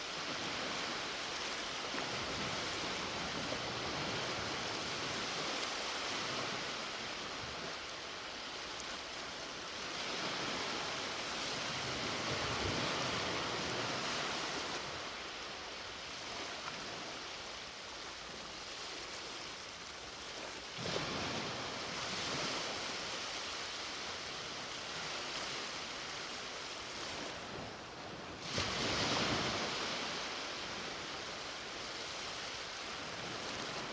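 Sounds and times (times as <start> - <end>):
ocean waves breaking on beach: 0.0 - 33.9.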